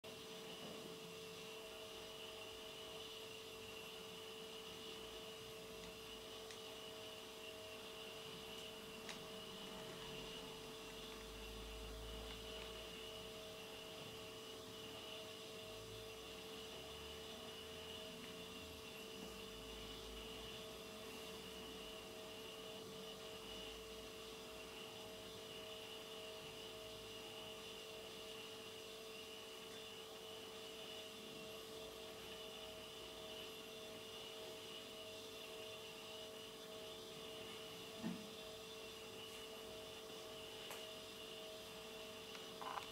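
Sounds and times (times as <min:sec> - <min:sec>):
faint electrical hum with whine: 0:00.0 - 0:42.9.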